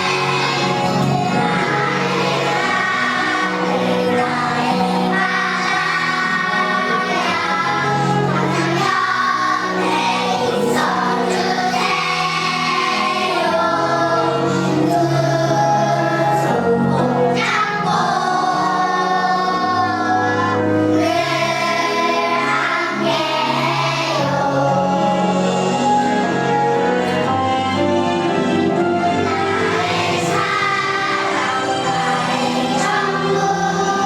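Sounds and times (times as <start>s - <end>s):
children's choir singing: 0.0s - 34.0s
musical accompaniment: 0.0s - 34.0s.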